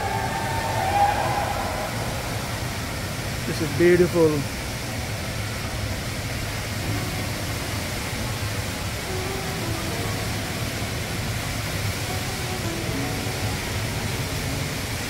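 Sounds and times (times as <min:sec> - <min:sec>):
indoor waterfall rushing: 0:00.0 - 0:15.0.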